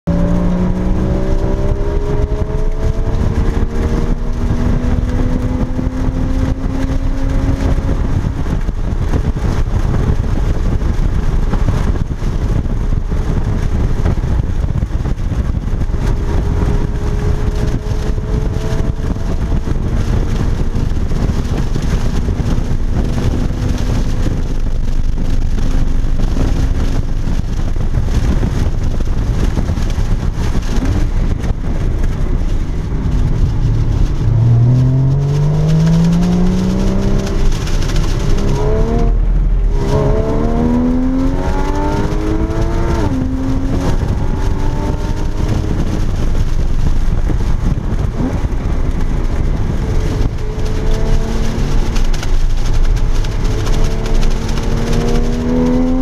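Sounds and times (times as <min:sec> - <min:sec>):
car engine revving: 0:00.0 - 0:56.0
tyre and road noise: 0:00.0 - 0:56.0.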